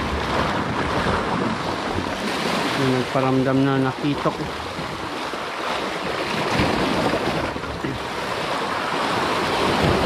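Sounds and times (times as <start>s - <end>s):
waves washing against rocks: 0.0s - 10.0s
wind on microphone: 0.0s - 10.0s.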